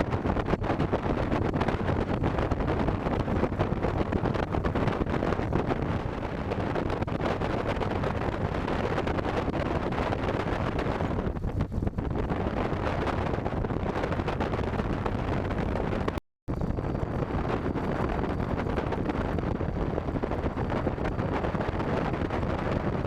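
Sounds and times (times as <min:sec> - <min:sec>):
rumbling aircraft engine: 0:00.0 - 0:23.0
wind buffeting microphone: 0:00.0 - 0:23.0.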